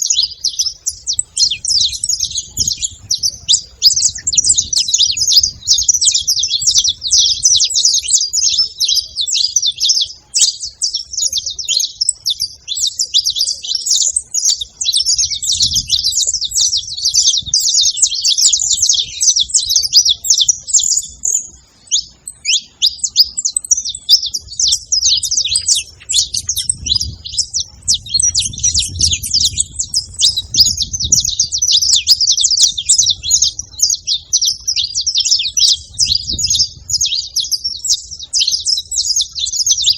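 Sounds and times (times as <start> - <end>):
finch rapid high chirps: 0.0 - 39.9.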